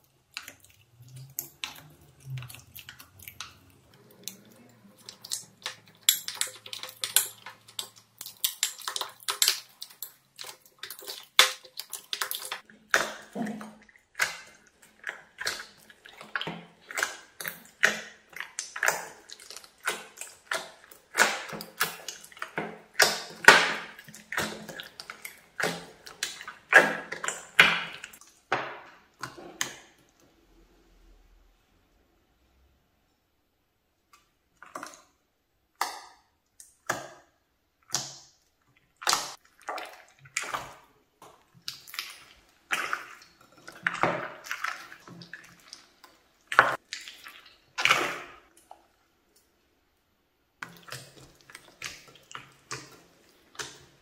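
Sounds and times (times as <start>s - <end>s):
wet slime squelching: 0.0s - 30.9s, 34.0s - 54.0s.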